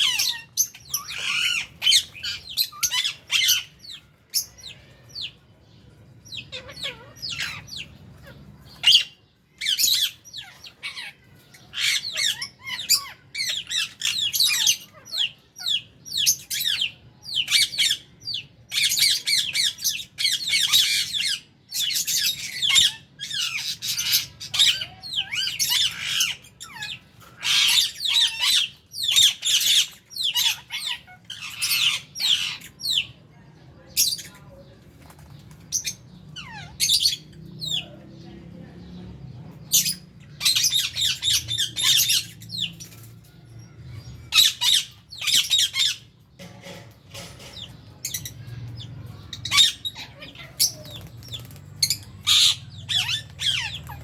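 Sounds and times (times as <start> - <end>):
birds chattering and squawking: 0.0 - 54.0.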